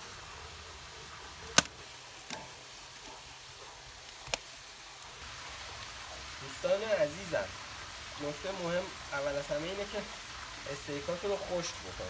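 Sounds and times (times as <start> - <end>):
faint grill sizzle: 0.0 - 12.0.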